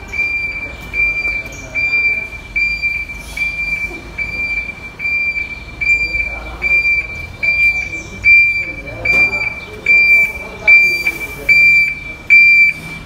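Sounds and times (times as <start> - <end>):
reversing alarm beeping: 0.0 - 13.0.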